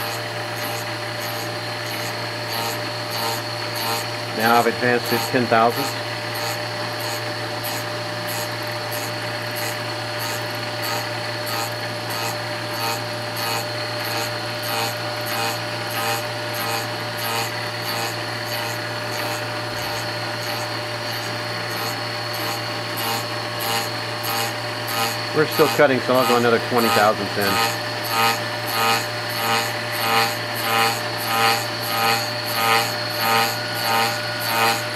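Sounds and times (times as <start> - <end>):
lathe cutter rasping scrape: 0.0 - 34.9
machine hum: 0.0 - 34.9.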